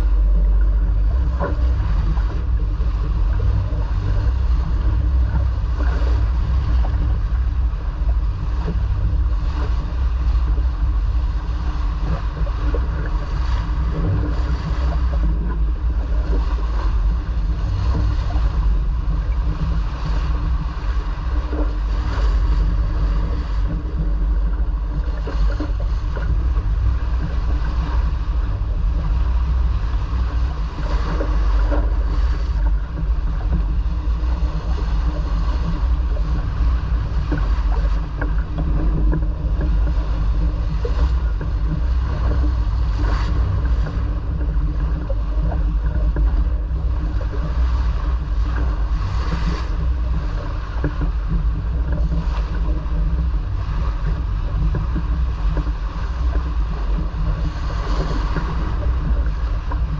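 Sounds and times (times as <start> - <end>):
faint steady hum: 0.0 - 59.9
low rumble: 0.0 - 59.9
water washing along hull: 0.0 - 59.9
wind buffeting microphone: 0.0 - 59.9.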